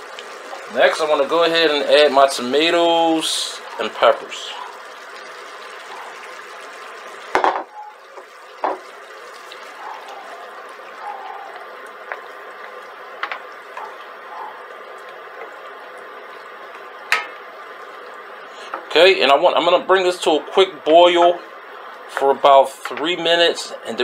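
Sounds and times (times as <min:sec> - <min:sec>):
sauce bubbling in a pan: 0:00.0 - 0:24.0.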